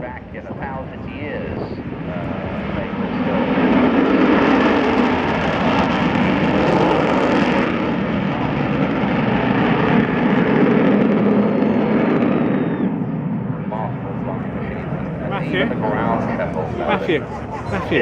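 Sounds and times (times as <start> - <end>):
jet aircraft passing: 0.0 - 18.0.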